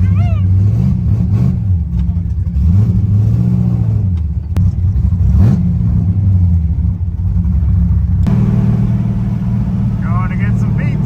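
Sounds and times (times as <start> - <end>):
low engine note: 0.0 - 11.0.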